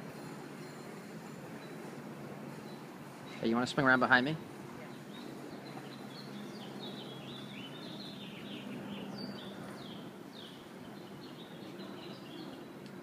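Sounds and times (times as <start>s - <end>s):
steady low hum: 0.0s - 13.0s
small birds chirping: 0.2s - 13.0s.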